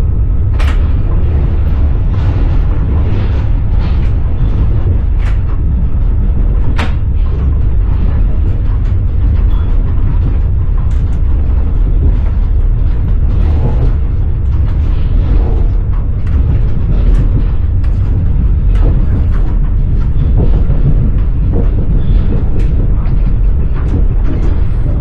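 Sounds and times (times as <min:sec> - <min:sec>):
train carriage rumbling: 0:00.0 - 0:25.0.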